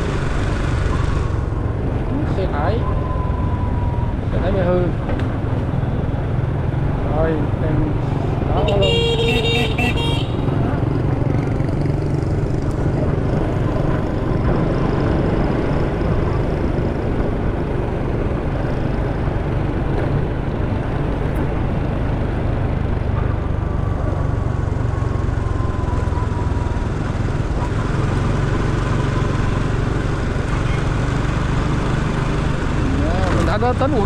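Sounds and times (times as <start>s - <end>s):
motorcycle engine rumble: 0.0s - 34.0s.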